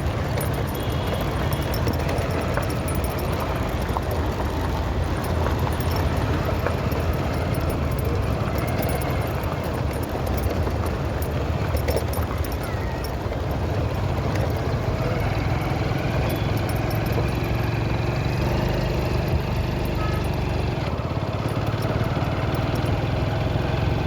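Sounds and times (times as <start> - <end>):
road and wind noise: 0.0 - 24.0
vehicle engine humming: 0.0 - 24.0.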